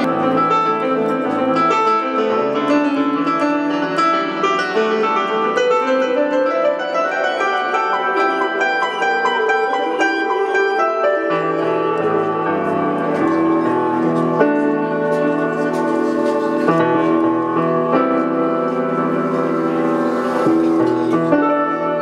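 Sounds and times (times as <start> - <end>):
keyboard playing piano melody: 0.0 - 22.0.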